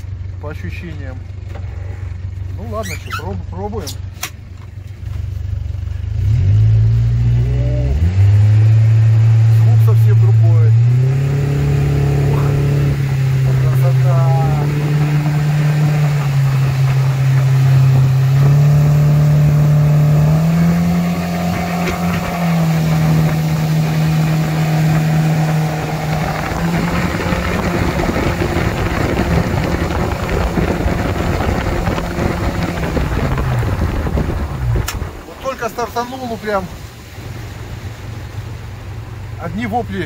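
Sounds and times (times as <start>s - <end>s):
outboard engine drone: 0.0s - 40.0s
rush of water and wind: 6.5s - 40.0s.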